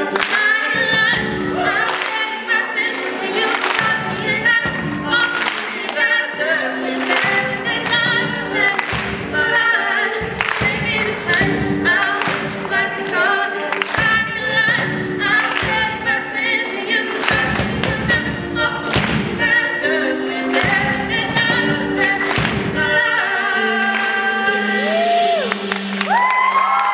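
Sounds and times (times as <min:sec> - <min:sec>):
drum kit beating: 0:00.0 - 0:24.5
woman singing: 0:00.0 - 0:25.5.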